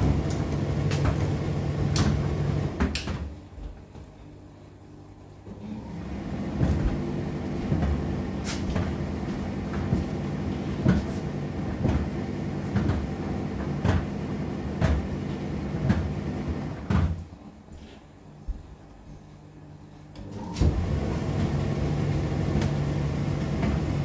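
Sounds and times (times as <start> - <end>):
tumble dryer motor hum: 0.0 - 24.0.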